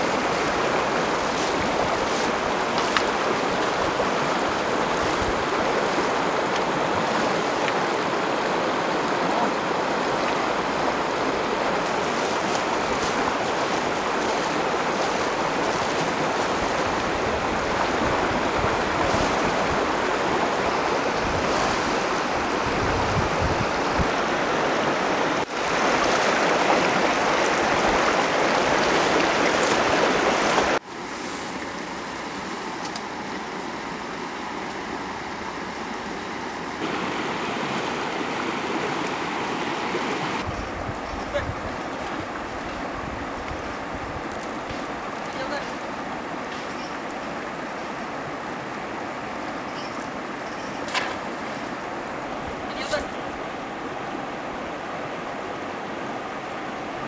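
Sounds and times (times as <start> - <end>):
river water rushing and splashing: 0.0 - 57.0.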